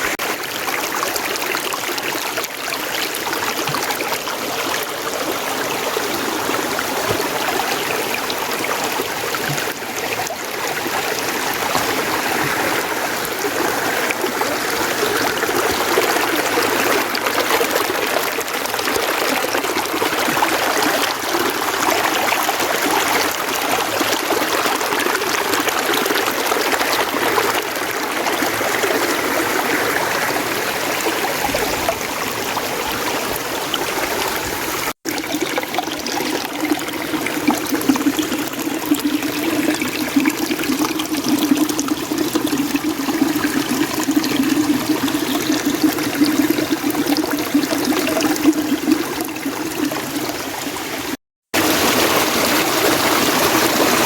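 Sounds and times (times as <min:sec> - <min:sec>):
mountain stream running: 0:00.0 - 0:54.0.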